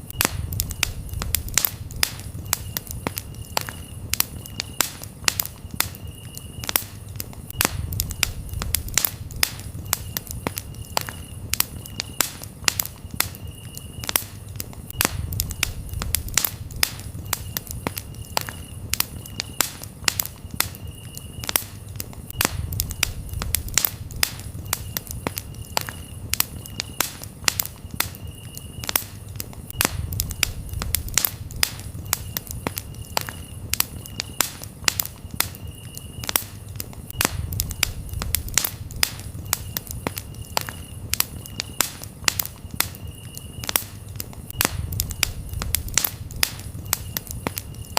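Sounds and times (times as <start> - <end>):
campfire wood crackling: 0.0 - 47.9
low rumble of flames: 0.0 - 47.9
cricket trilling: 0.1 - 47.9.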